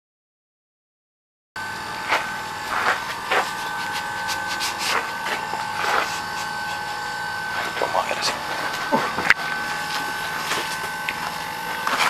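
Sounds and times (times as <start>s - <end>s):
steady high hum: 1.6s - 12.0s.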